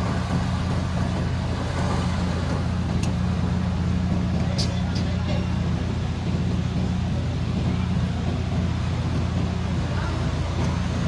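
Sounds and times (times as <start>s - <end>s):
truck engines droning: 0.0s - 11.0s.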